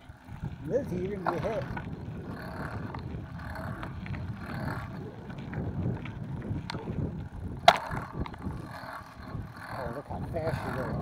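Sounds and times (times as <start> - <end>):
bicycle tyres on gravel: 0.0 - 11.0
bike rattles: 0.0 - 11.0
wind buffeting microphone: 0.0 - 11.0.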